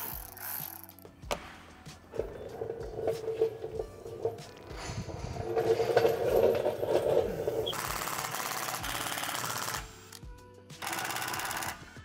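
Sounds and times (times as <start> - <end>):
cordless ratchet spinning a bolt: 0.0 - 1.1, 2.1 - 10.2, 10.8 - 11.8
background music: 0.0 - 12.0.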